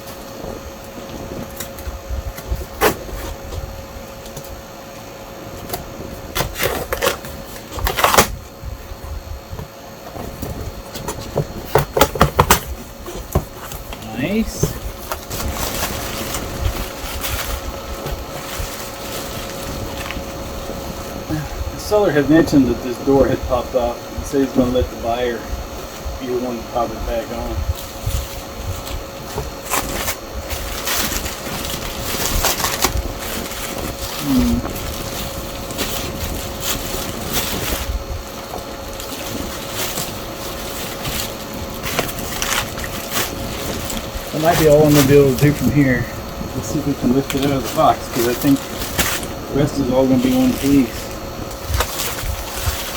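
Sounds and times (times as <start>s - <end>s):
faint steady hum: 0.0s - 52.9s
packing material rustling: 5.4s - 8.7s, 10.1s - 52.9s.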